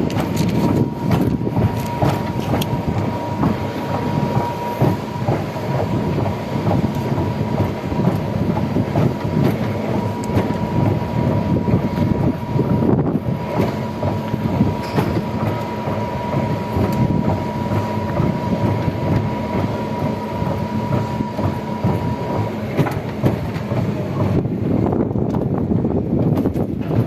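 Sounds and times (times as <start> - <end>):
thin steady whine: 0.0 - 25.8
vehicle rumble on board: 0.0 - 27.0.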